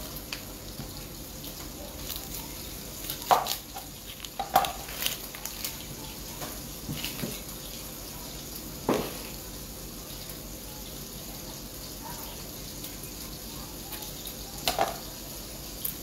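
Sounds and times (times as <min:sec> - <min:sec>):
meat frying hiss: 0:00.0 - 0:16.0.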